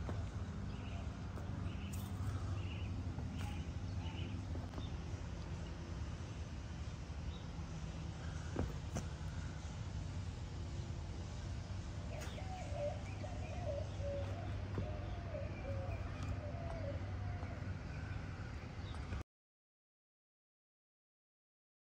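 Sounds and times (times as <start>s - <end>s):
steady low rumble: 0.0s - 19.2s.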